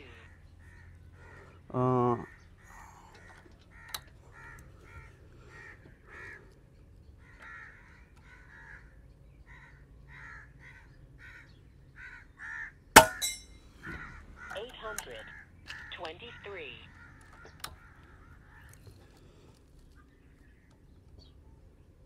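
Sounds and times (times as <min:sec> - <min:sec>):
crows cawing: 0:00.0 - 0:13.1, 0:13.8 - 0:19.7.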